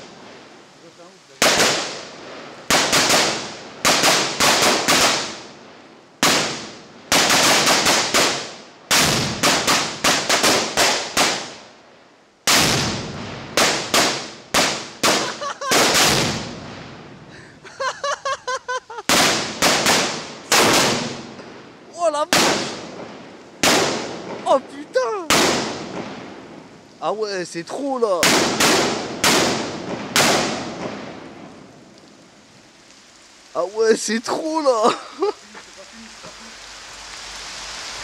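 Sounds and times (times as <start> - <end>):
firecrackers banging: 0.0 - 11.7, 12.4 - 26.9, 28.0 - 38.0.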